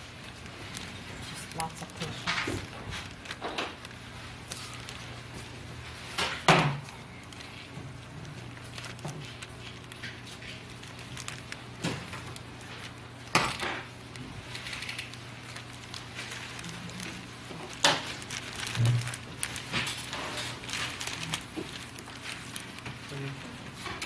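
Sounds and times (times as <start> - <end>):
low room hum: 0.0 - 24.0
rustling of materials: 0.0 - 24.0.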